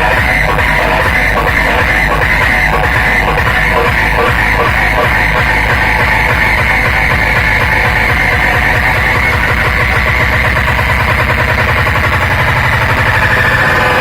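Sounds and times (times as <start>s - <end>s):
loud distorted music: 0.0s - 14.0s.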